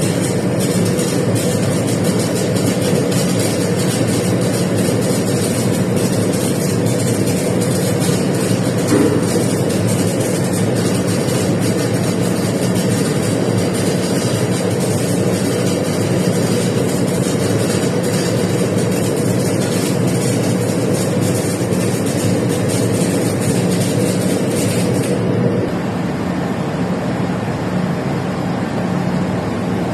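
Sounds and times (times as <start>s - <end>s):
welding arc crackle: 0.0s - 25.7s
constant low hum: 0.0s - 29.9s.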